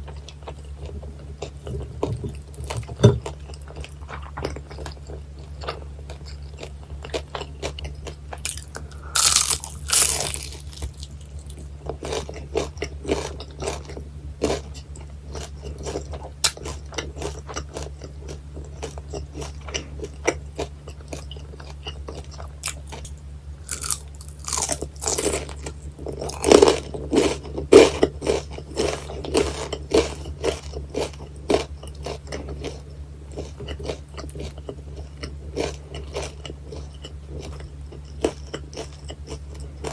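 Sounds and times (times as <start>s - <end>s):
chewing with small crackles: 0.0s - 39.9s
crunchy bites of fried food: 0.0s - 39.9s
low steady hum: 0.0s - 39.9s.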